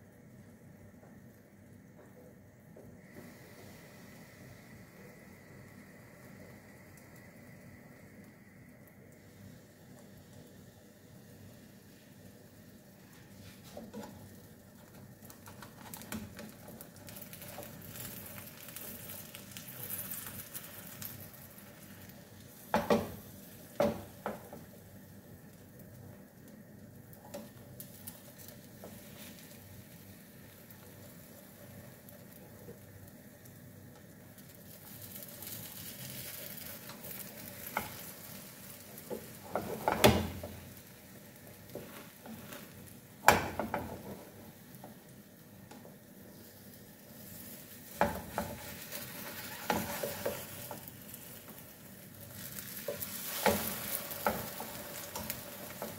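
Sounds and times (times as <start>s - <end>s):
egg sizzling in frying pan: 0.1s - 55.9s.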